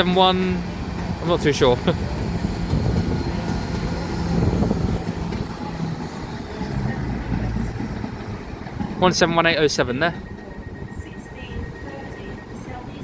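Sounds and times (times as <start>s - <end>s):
train diesel engines droning: 0.0s - 13.0s.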